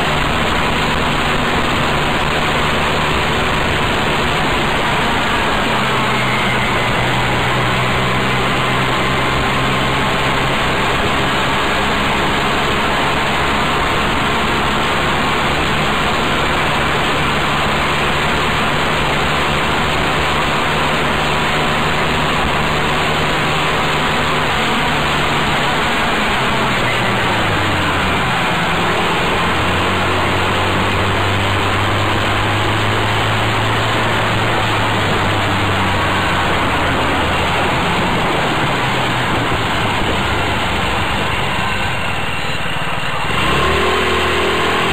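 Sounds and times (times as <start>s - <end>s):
buggy engine running: 0.0s - 44.9s
wind and road noise: 0.0s - 44.9s.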